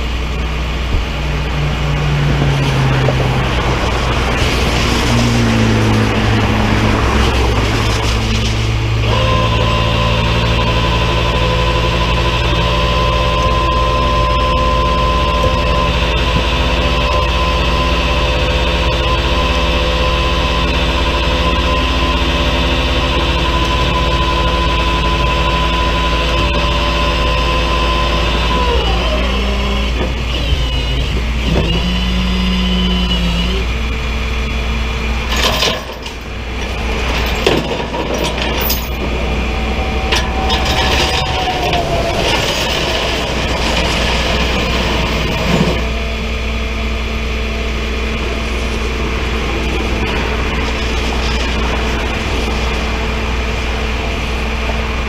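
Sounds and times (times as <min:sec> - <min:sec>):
constant engine whine: 0:00.0 - 0:55.0
vehicle engine running: 0:00.0 - 0:55.0.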